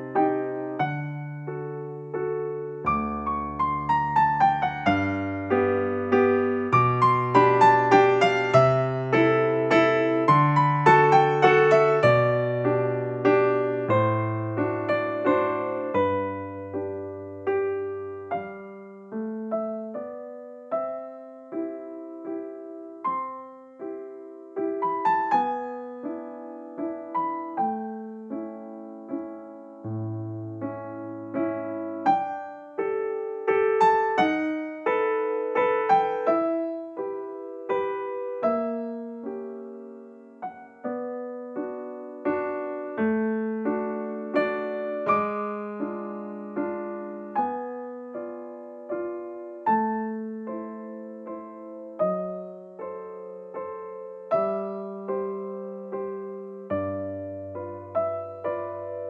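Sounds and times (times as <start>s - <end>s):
gentle piano music: 0.0s - 59.0s.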